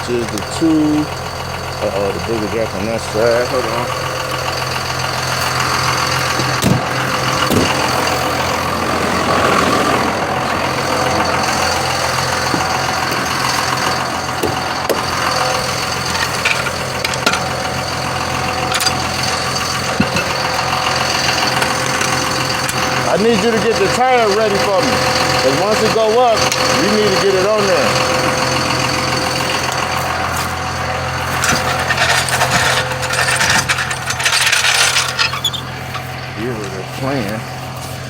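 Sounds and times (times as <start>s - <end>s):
vehicle engine idling: 0.0s - 38.0s.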